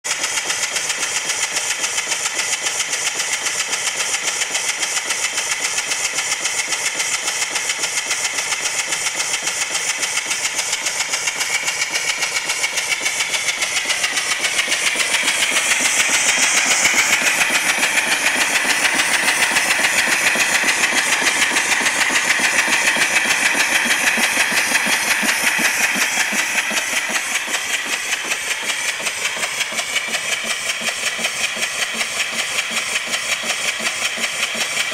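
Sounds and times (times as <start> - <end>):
steam engine exhaust beats: 0.1 - 34.9
steam hissing: 0.2 - 34.9.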